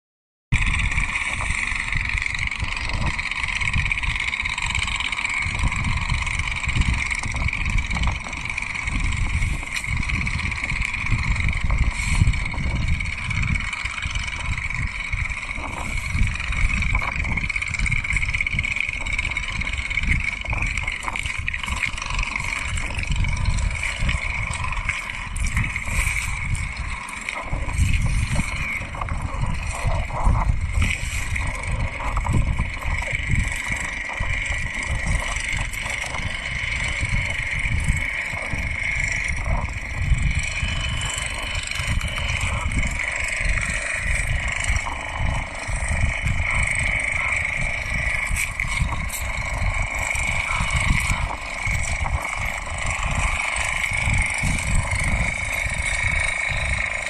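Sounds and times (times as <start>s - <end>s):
steady high-pitched whine: 0.5s - 57.0s
wind buffeting microphone: 0.5s - 57.0s.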